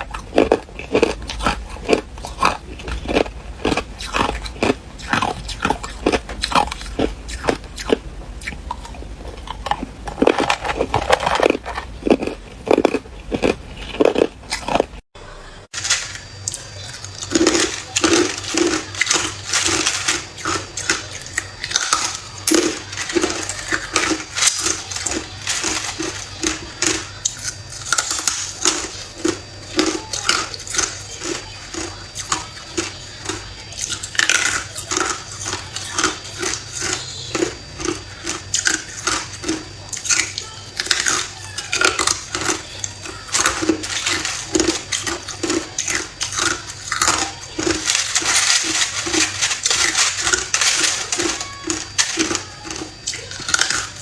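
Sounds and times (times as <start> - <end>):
ice being chewed: 0.0 - 15.0, 15.8 - 54.0.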